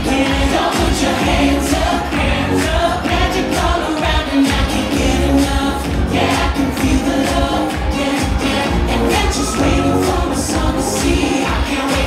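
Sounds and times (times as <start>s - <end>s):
upbeat pop music with singing: 0.0s - 12.0s.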